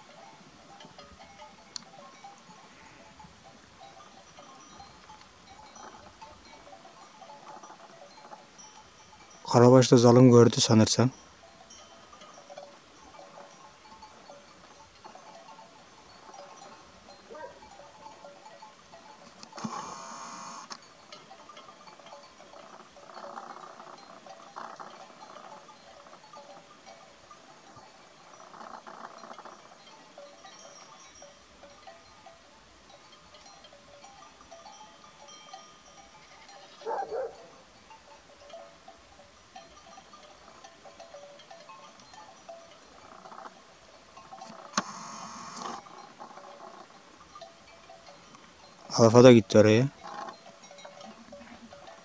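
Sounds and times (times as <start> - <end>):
flock bells clinking: 0.0 - 52.0.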